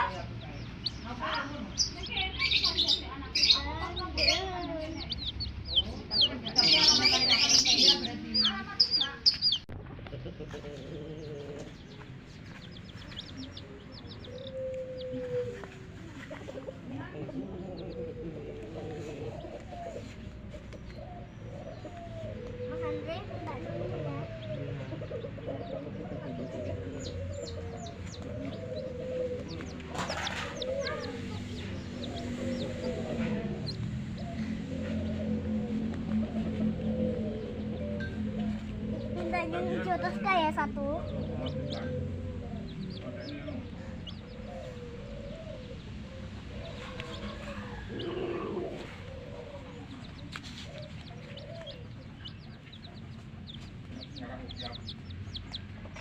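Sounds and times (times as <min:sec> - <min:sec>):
chicks peeping: 0:00.0 - 0:56.0
hen clucking: 0:00.0 - 0:56.0
low rumble: 0:02.6 - 0:56.0.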